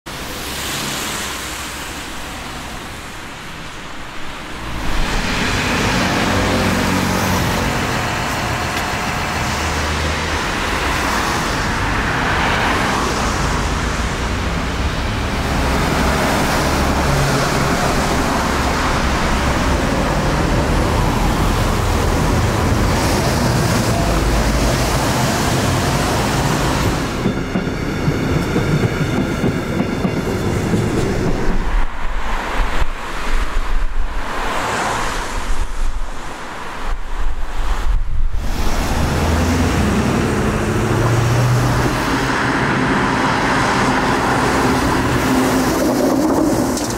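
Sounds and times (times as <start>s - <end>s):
car engines and tyres rumbling: 0.1s - 46.9s.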